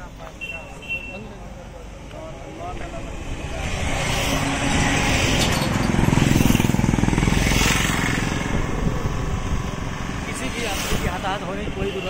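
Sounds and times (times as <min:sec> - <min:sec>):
vehicle passing on highway: 0:01.8 - 0:11.8.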